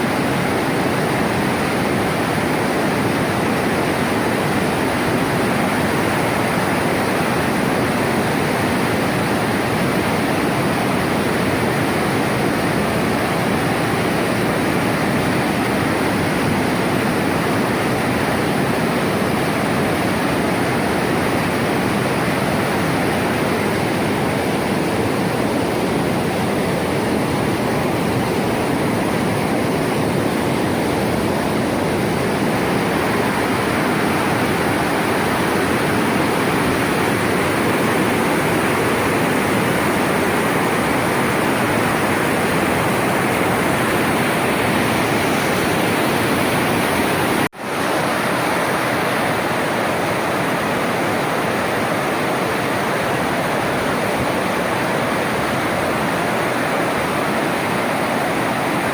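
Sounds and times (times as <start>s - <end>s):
floodwater rushing: 0.0s - 58.9s.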